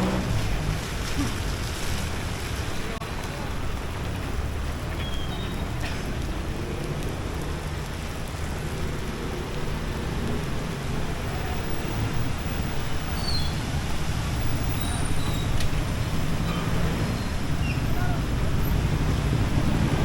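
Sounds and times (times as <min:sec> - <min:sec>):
traffic passing in rain: 0:00.0 - 0:20.0.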